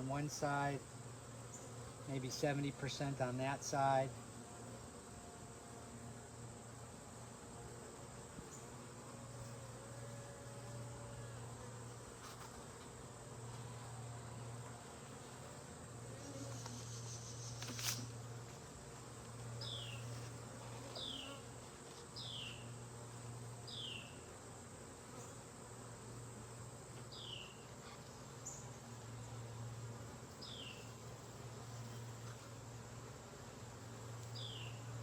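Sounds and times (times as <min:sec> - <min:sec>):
honeybees buzzing: 0:00.0 - 0:35.0.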